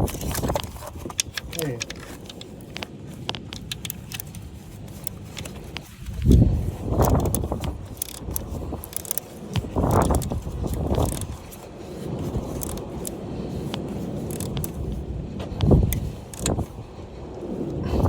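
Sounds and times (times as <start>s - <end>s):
light clicks: 0.0s - 11.6s, 12.5s - 14.9s, 15.6s - 16.6s.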